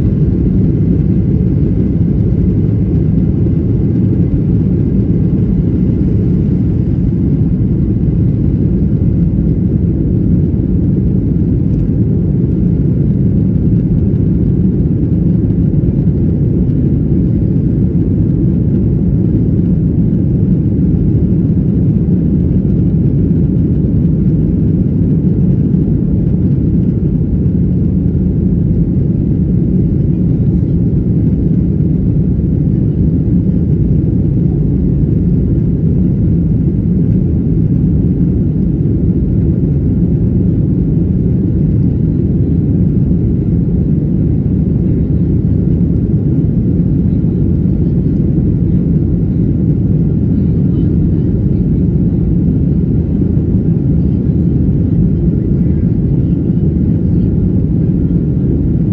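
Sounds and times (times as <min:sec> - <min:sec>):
jet engines roaring in cabin: 0:00.0 - 0:58.9.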